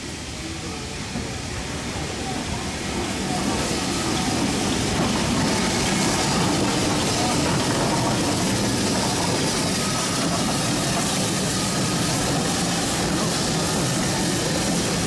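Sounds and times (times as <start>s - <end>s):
steam locomotive hiss and rumble: 0.0s - 15.0s.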